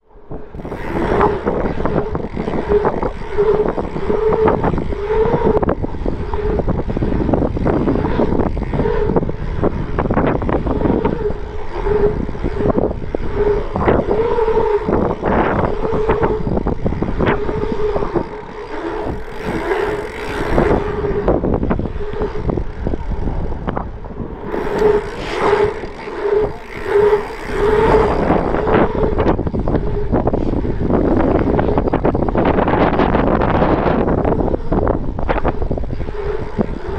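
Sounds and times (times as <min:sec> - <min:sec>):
bike tyres humming on asphalt: 0:00.0 - 0:36.9
wind buffeting microphone: 0:00.1 - 0:36.9.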